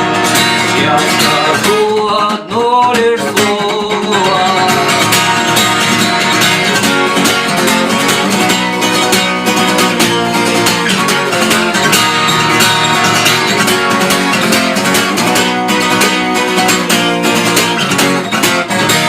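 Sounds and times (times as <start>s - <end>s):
guitar strummed fast: 0.0s - 19.0s.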